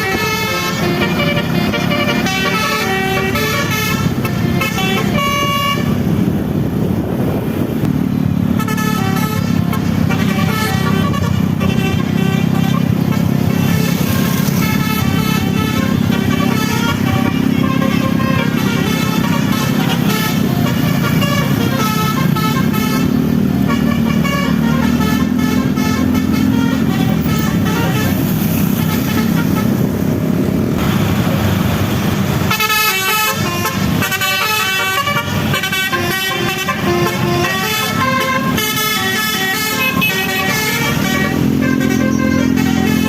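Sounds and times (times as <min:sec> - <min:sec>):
bus musical horn: 0:00.0 - 0:06.4, 0:08.3 - 0:30.4, 0:32.4 - 0:43.0.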